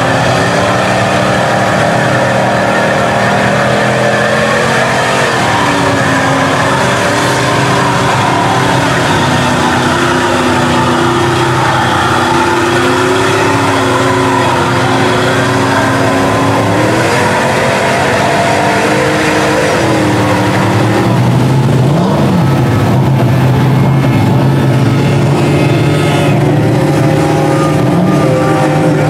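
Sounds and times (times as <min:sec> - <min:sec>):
truck engine revving: 0:00.0 - 0:29.0
truck plowing through mud: 0:00.0 - 0:29.0.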